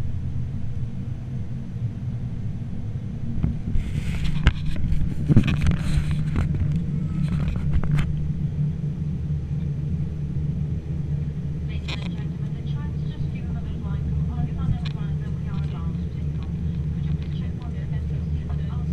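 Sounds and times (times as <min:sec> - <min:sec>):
distant jet engines roaring: 0:00.0 - 0:18.9.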